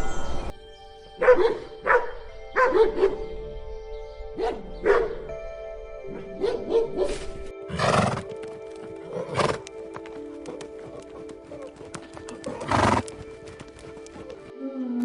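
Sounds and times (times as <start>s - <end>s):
music with long held notes: 0.0s - 15.0s.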